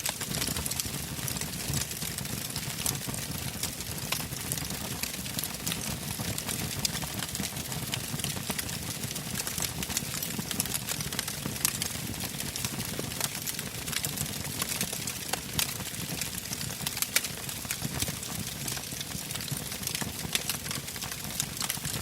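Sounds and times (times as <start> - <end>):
crackles and pops of logs: 0.0 - 22.0
campfire flames rumbling: 0.1 - 22.0.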